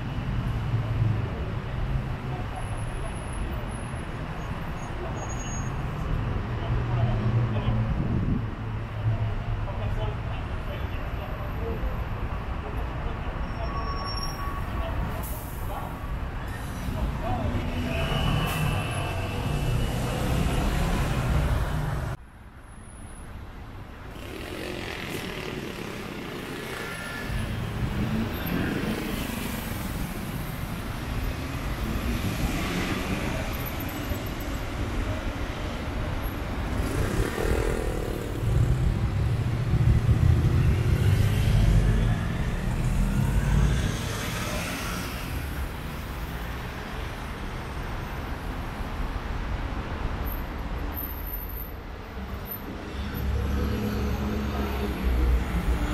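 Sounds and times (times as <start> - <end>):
steady traffic noise: 0.0 - 55.9.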